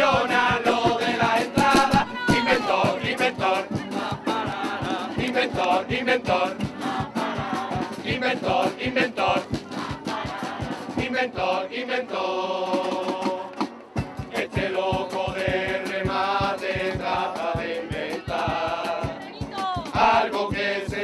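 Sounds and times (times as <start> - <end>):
guitars: 0.0 - 11.6, 12.8 - 21.0
drum beat: 0.0 - 11.7, 12.6 - 21.0
group singing in chorus: 0.0 - 21.0.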